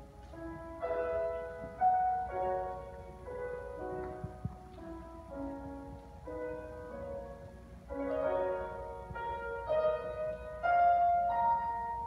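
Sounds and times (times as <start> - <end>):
grand piano melody: 0.0 - 12.0.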